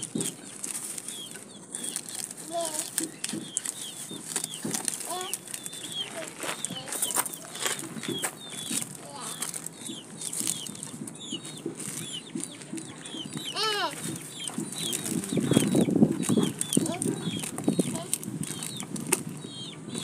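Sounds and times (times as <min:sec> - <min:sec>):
birds chirping: 0:00.0 - 0:20.0
bird clucking call: 0:02.6 - 0:20.0.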